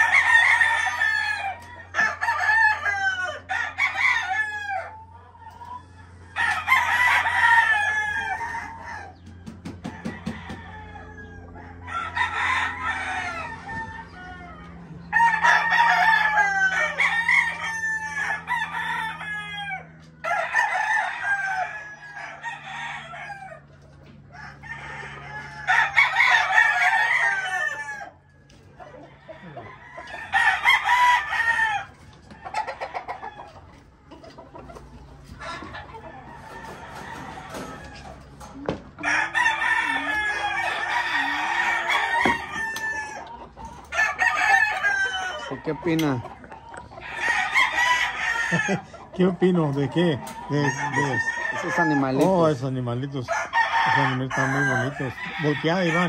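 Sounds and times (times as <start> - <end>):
roosters crowing: 0.0 - 56.0.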